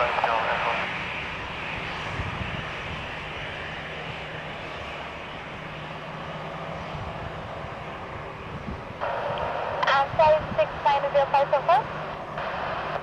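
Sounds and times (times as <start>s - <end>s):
airliner engine rushing: 0.0s - 13.0s.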